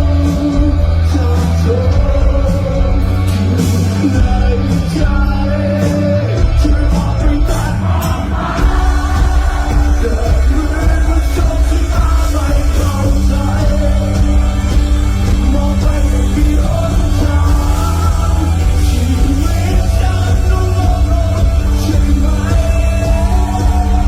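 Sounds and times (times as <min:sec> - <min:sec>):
rock music with sung vocal: 0:00.0 - 0:24.0.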